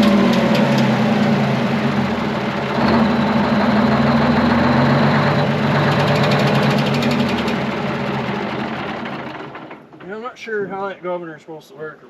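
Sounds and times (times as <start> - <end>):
diesel generator engine running: 0.0 - 10.0.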